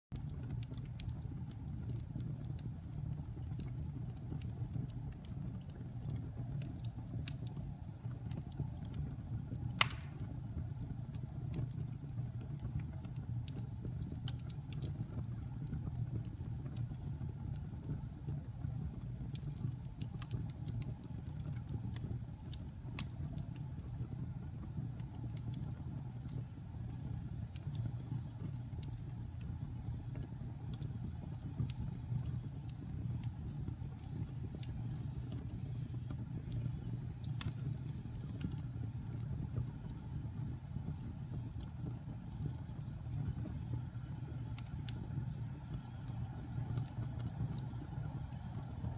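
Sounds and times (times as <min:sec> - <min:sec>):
fire crackling and popping: 0:00.1 - 0:48.9
fire low rumble: 0:00.1 - 0:48.9.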